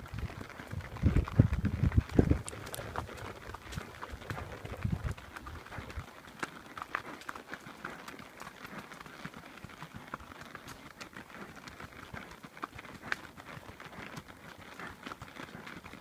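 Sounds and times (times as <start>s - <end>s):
hooves on gravel: 0.0s - 16.0s.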